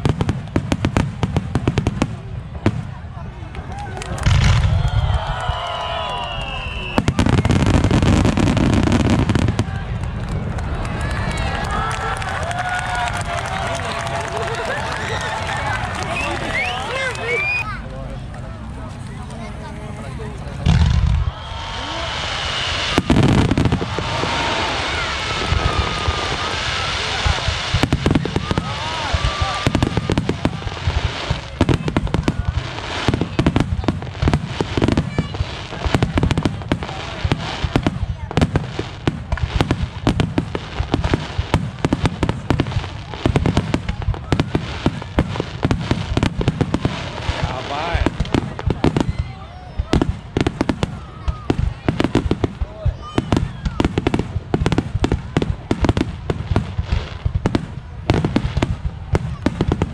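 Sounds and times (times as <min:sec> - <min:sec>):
continuous low rumble: 0:00.0 - 0:07.0, 0:09.4 - 0:59.9
fireworks booming and cracking: 0:00.0 - 0:17.7, 0:20.1 - 0:59.9.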